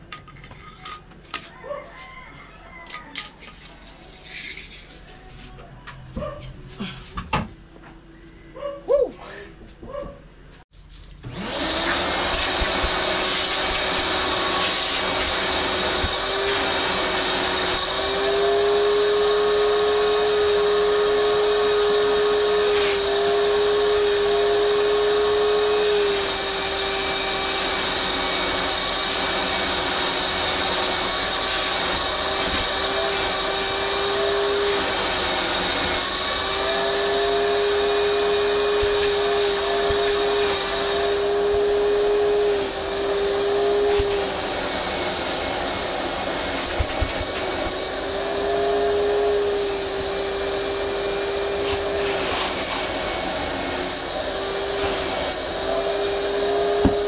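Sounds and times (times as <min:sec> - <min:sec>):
vacuum cleaner running: 0:11.2 - 0:57.0.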